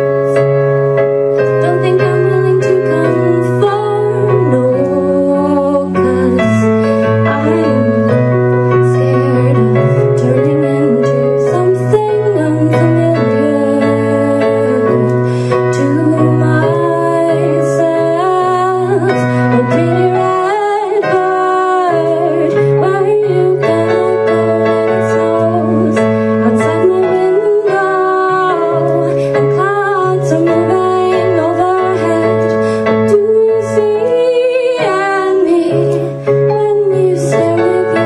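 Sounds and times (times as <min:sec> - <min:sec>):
electronic keyboard chords: 0:00.0 - 0:38.0
woman singing slow song: 0:01.6 - 0:38.0.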